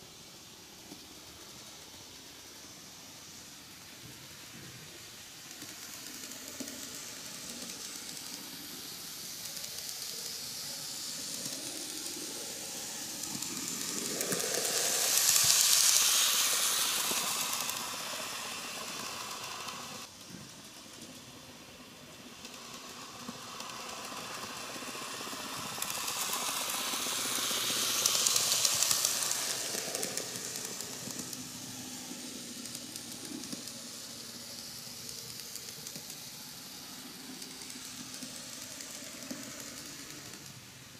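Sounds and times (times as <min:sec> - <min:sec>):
model train motor whirring: 0:00.0 - 0:40.9.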